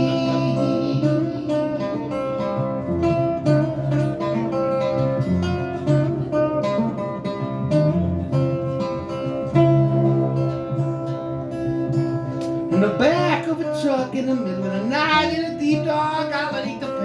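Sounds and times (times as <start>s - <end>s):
acoustic guitar strummed and picked: 0.0s - 17.0s.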